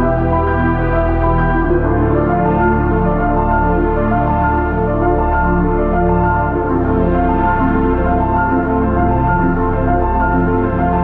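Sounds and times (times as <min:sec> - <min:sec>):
ambient synthesizer music: 0:00.0 - 0:11.0.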